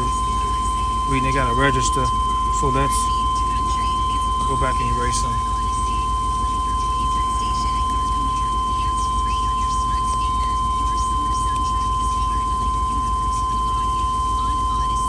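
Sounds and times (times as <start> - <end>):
high-pitched electronic tone: 0.0 - 15.0
low steady rumble: 0.0 - 15.0.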